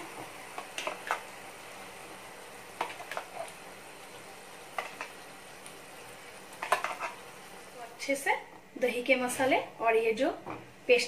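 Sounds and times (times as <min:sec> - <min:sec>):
faint steady sizzle: 0:00.0 - 0:11.0.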